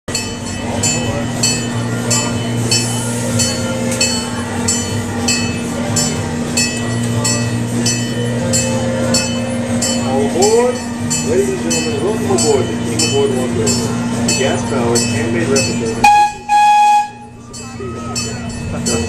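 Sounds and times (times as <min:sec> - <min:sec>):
train running hum: 0:00.1 - 0:19.0.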